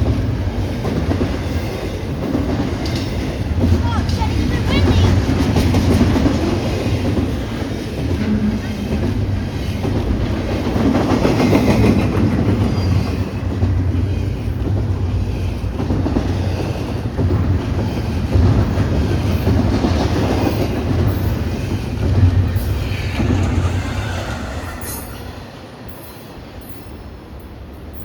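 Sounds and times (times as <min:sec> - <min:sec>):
train wheels on rail: 0:00.0 - 0:28.0.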